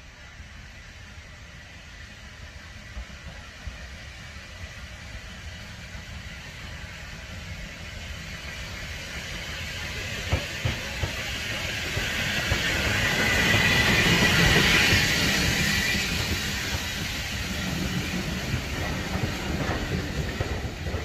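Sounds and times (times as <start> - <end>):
steam hissing: 0.0 - 21.0
steam train rumble: 0.0 - 21.0.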